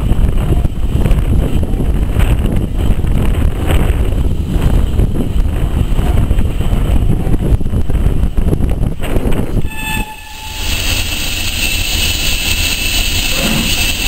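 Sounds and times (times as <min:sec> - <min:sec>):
train loud low rumble: 0:00.0 - 0:14.0
wind buffeting microphone: 0:00.0 - 0:14.0.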